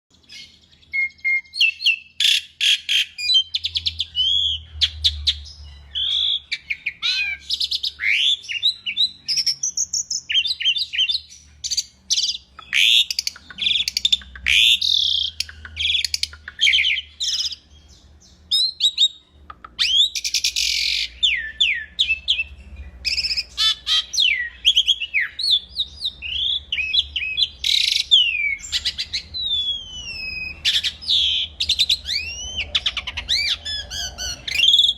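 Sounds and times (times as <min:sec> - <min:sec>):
starling singing whistles and trills: 0:00.3 - 0:34.9.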